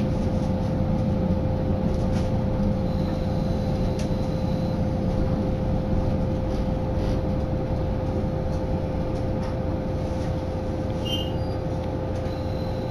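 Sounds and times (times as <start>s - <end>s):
train rumbling inside carriage: 0.0s - 12.9s.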